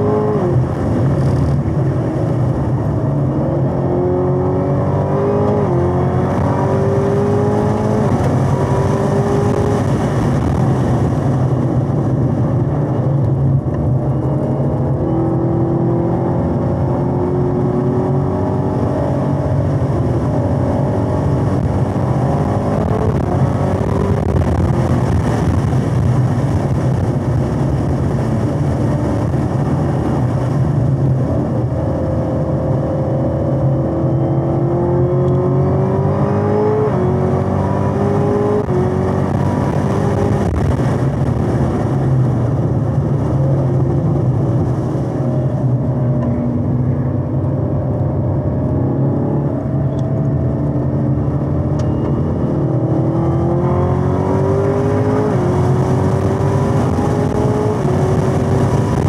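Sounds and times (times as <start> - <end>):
car engine revving on track: 0.0 - 59.0.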